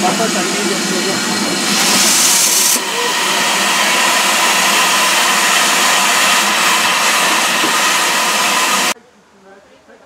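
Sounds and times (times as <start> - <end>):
steam hissing loudly: 0.0 - 9.0.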